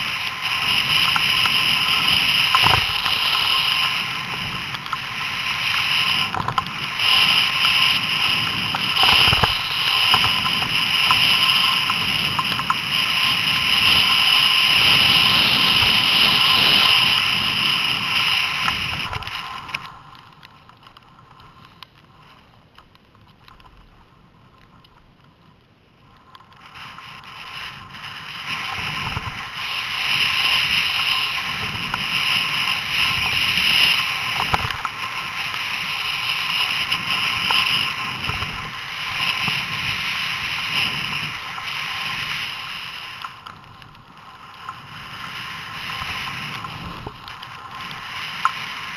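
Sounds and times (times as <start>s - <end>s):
wind rushing over microphone: 0.0s - 22.3s, 26.1s - 48.9s
skis scraping over snow: 0.0s - 48.9s.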